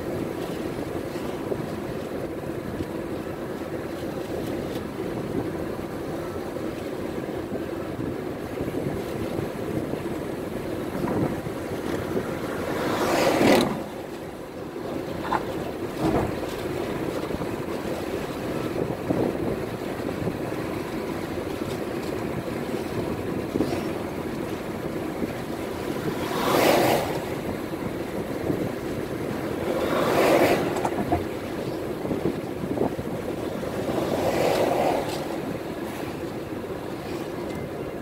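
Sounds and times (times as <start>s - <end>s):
car road and wind noise: 0.0s - 38.0s.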